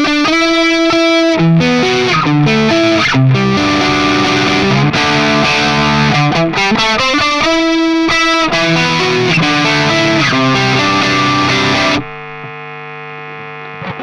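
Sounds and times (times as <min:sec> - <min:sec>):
distorted electric guitar: 0:00.0 - 0:14.0
steady held tone: 0:01.4 - 0:14.0.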